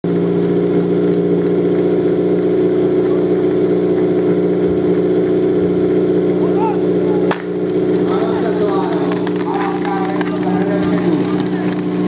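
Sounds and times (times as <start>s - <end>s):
pump engine idling: 0.0s - 12.0s.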